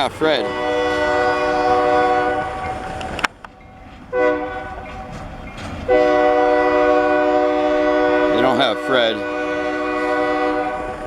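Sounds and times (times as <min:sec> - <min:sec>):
locomotive air horn blasts: 0:00.0 - 0:03.3, 0:04.1 - 0:05.2, 0:05.8 - 0:11.0.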